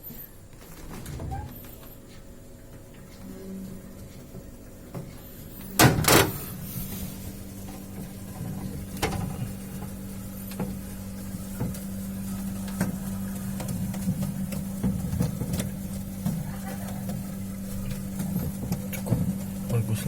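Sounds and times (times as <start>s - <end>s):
refrigerator compressor humming: 0.0s - 20.0s.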